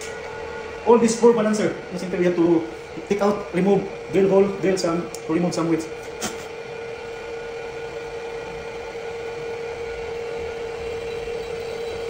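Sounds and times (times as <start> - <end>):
machine drill humming: 0.0 - 12.0.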